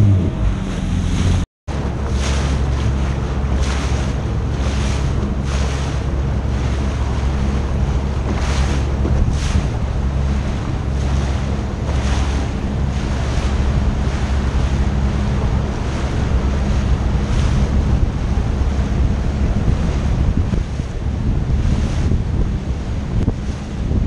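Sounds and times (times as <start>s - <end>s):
water rushing past hull: 0.0s - 24.0s
watercraft engine drone: 0.0s - 24.0s
wind buffeting microphone: 0.0s - 24.0s.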